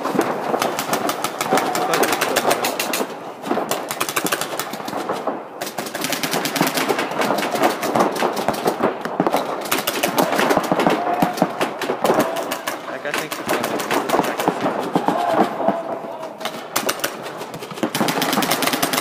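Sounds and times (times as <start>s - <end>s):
paintball markers firing: 0.0s - 19.0s.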